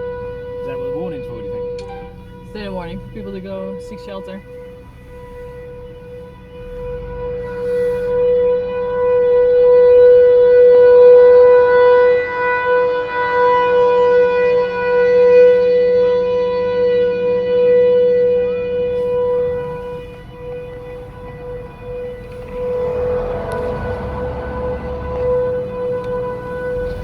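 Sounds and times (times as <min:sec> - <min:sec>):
warning siren steady tone: 0:00.0 - 0:27.0.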